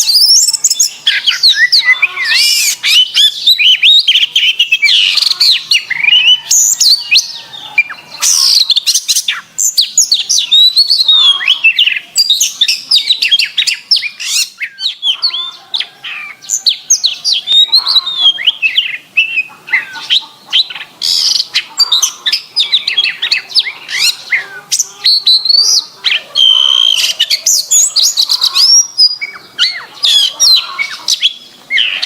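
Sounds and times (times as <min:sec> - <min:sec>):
canary singing: 0:00.0 - 0:32.0.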